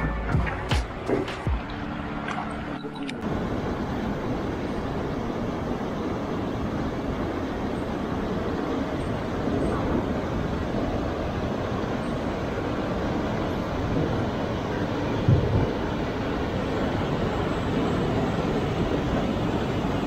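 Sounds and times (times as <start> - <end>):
small boat engine rumble: 0.0 - 20.0.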